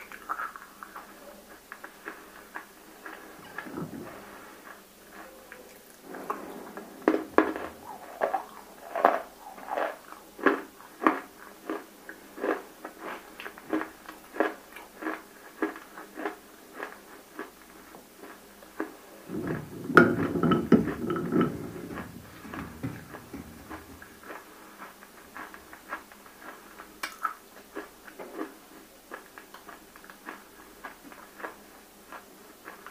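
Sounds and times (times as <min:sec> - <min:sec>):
chewing and crunching: 0:00.0 - 0:32.9.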